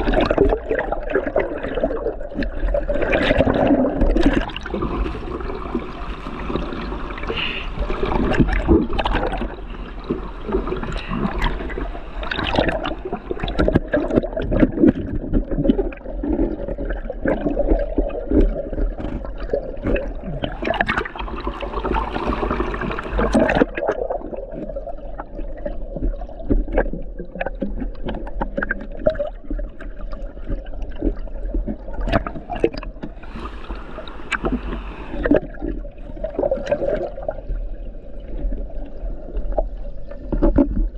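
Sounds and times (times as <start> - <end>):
water splashing and gurgling: 0.0 - 40.9.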